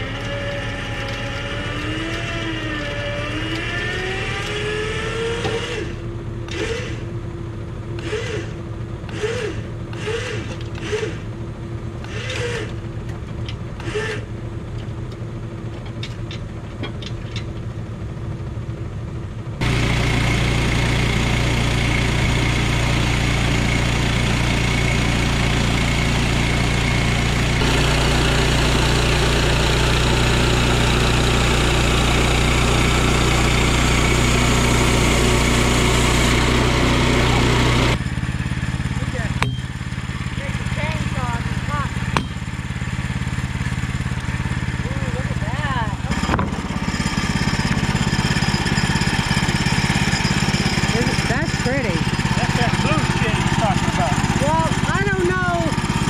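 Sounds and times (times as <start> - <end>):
sawmill gas engine running: 0.0 - 15.6, 19.6 - 56.0.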